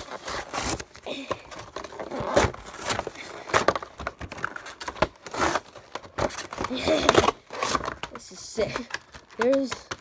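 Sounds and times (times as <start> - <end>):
plastic wrap and cardboard tearing: 0.0 - 10.0.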